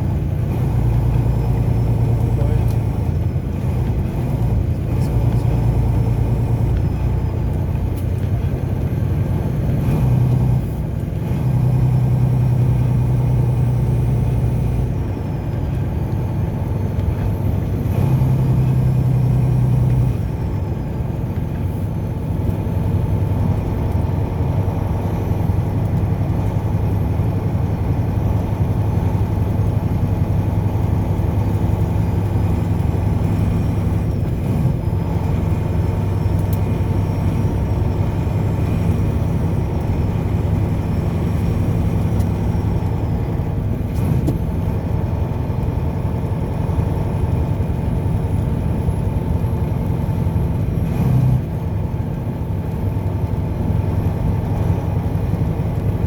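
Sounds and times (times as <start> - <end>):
car engine drone: 0.0 - 56.0
tyre and road noise: 0.0 - 56.0.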